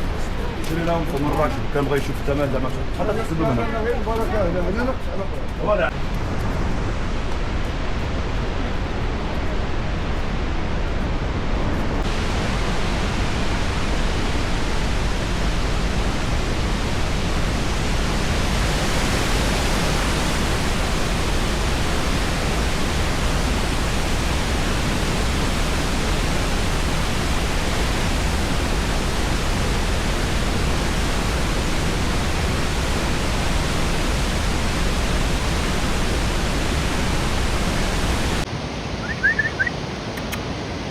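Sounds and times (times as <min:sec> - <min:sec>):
falling water roaring: 0:00.0 - 0:40.9.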